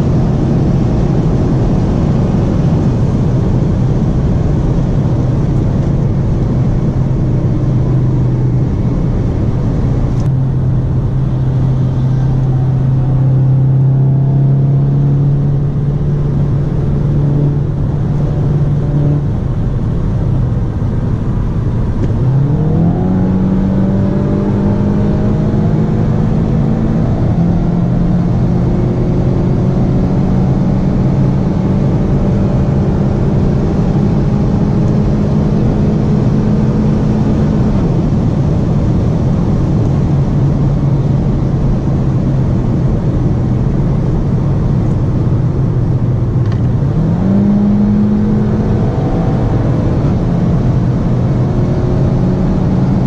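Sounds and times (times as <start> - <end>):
car engine droning: 0.0 - 53.0.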